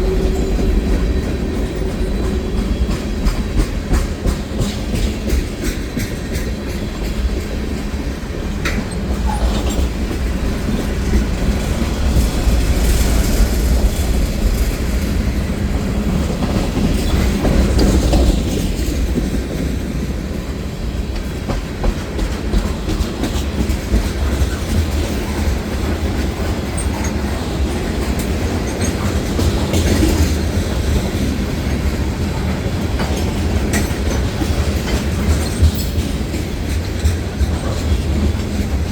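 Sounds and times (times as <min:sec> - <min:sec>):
train rumble: 0:00.0 - 0:38.9
train wheels clacking: 0:00.0 - 0:38.9.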